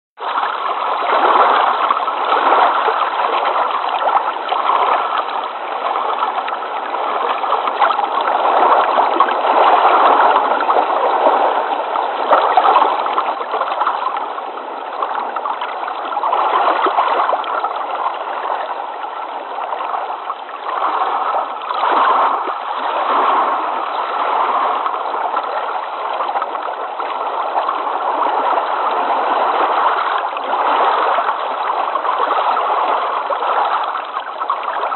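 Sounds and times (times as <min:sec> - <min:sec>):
flowing water: 0:00.2 - 0:34.9.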